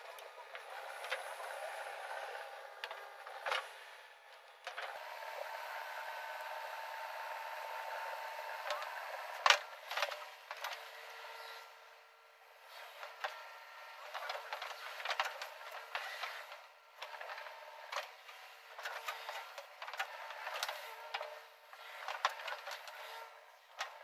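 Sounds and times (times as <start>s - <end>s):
backhoe diesel engine and hydraulics: 0.0s - 24.0s.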